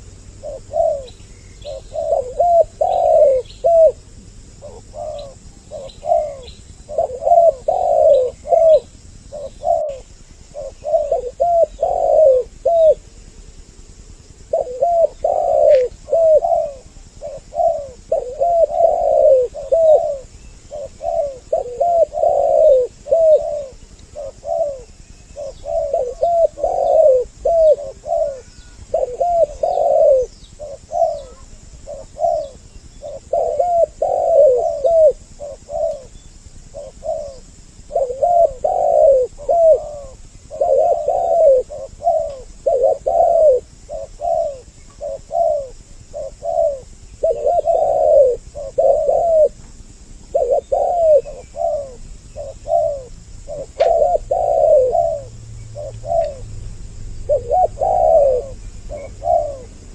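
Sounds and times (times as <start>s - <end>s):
doves cooing: 0.0s - 59.9s.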